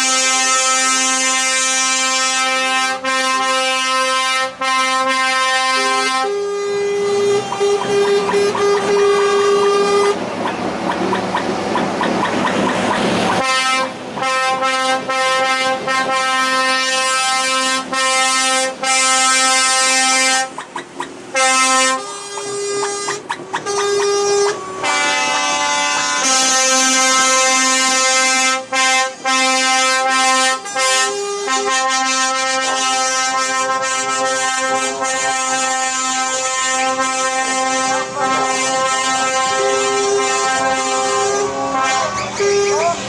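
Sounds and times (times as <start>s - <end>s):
truck air horns blasting: 0.0s - 43.0s.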